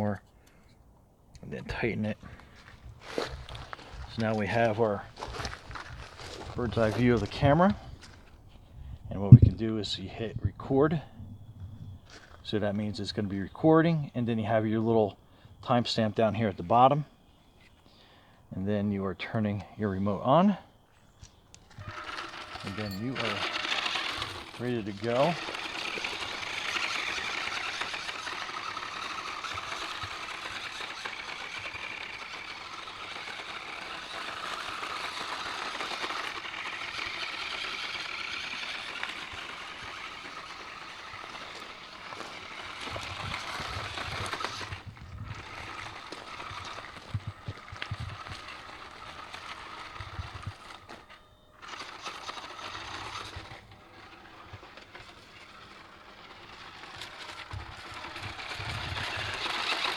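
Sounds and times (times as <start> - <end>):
rc truck motor whining: 1.7 - 9.4, 19.7 - 59.9.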